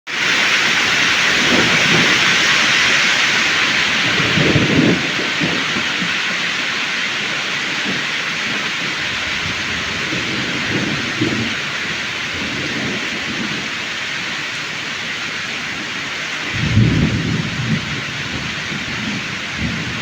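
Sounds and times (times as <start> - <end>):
heavy rain pouring: 0.1 - 20.0
thunder rumbling: 0.2 - 20.0.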